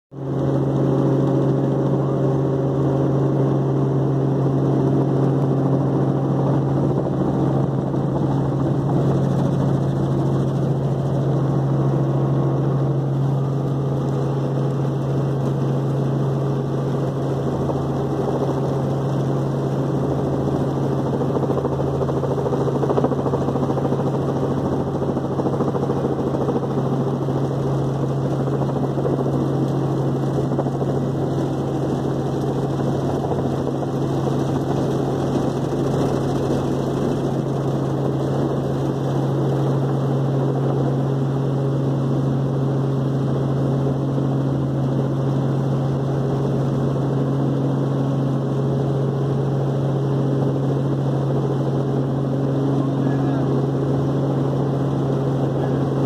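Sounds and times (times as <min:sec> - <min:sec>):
helicopter engine and rotor drone: 0:00.1 - 0:56.0.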